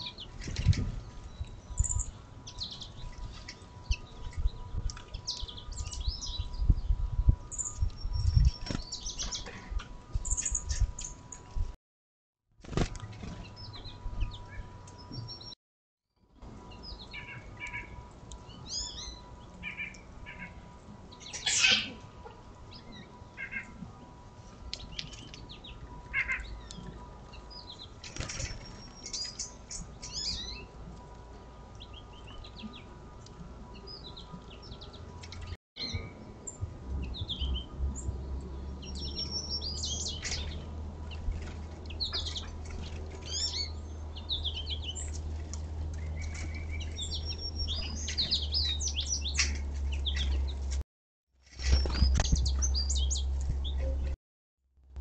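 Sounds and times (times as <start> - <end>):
songbirds chirping: 0.0 - 11.6, 12.7 - 15.6, 16.4 - 50.8, 51.5 - 54.2.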